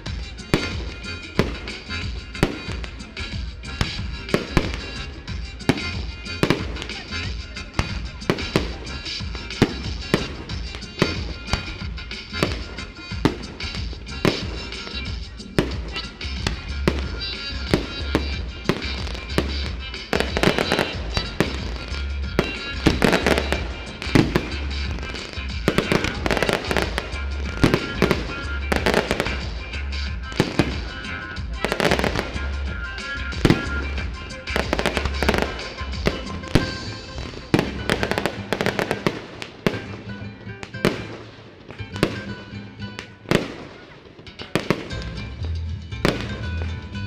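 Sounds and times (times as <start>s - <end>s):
music with pulsing bass beat: 0.0s - 43.8s, 44.4s - 47.0s
firework bursts and crackles: 0.0s - 47.0s.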